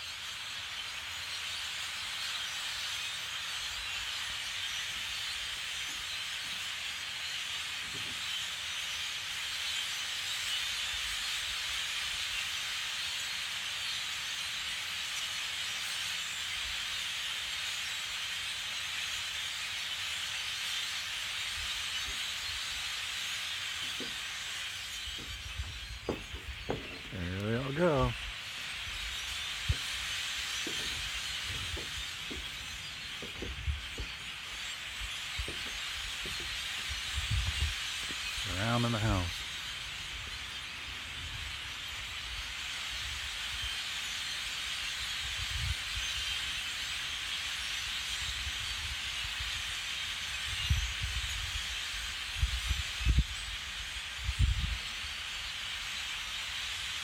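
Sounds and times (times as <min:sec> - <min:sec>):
large flock of birds chattering: 0:00.0 - 0:57.0.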